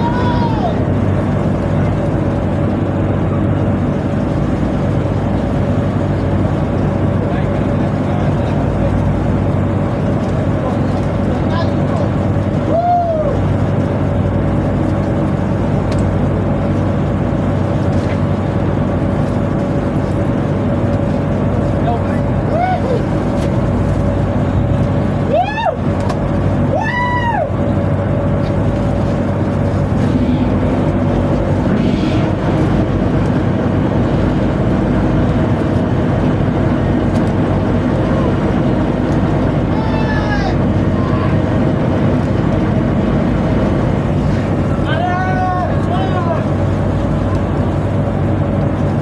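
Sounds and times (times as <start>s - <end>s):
tugboat engine droning: 0.0s - 49.0s.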